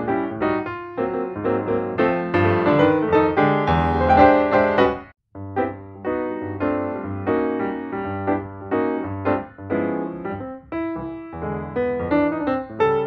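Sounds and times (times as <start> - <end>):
piano music quick notes: 0.0 - 13.0.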